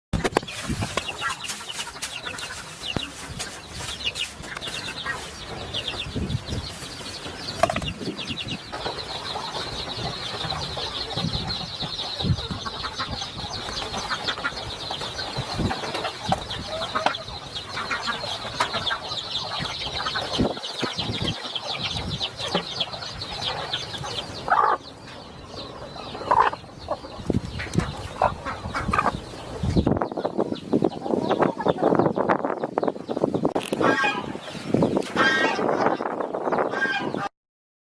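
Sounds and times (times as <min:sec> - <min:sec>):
chickens clucking: 0:00.2 - 0:37.3
chicks peeping: 0:00.2 - 0:37.3.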